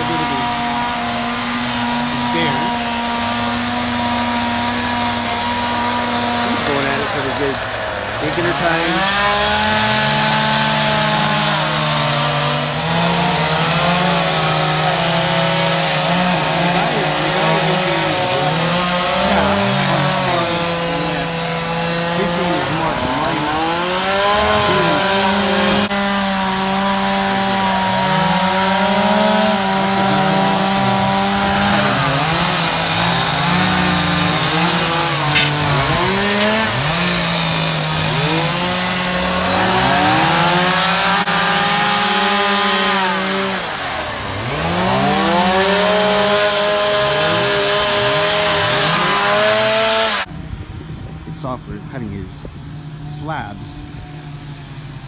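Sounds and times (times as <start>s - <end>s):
chainsaws revving: 0.0s - 50.3s.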